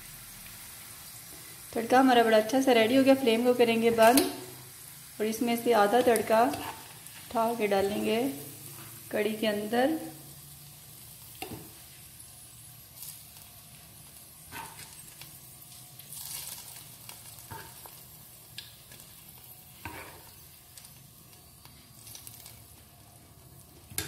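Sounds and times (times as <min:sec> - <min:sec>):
faint sizzling in a pot: 0:00.0 - 0:24.0.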